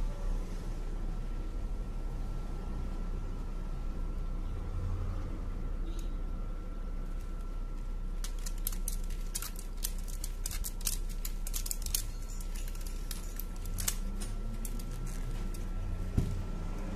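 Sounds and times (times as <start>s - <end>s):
faint hum: 0.0s - 16.9s.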